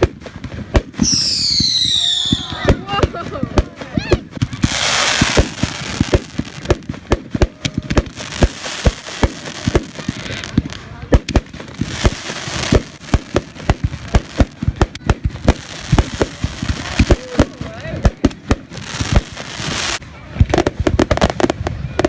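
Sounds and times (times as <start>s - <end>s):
fireworks bangs: 0.0s - 22.0s
fireworks crackling hiss: 0.0s - 22.0s.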